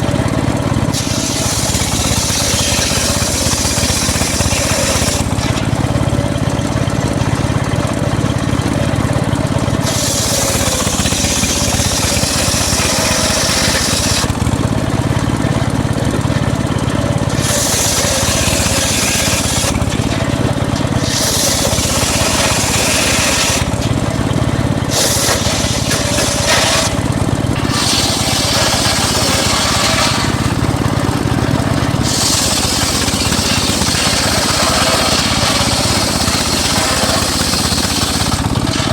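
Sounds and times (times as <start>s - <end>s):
engine-driven circular saw running: 0.0s - 38.9s
saw blade cutting wood: 0.8s - 38.9s.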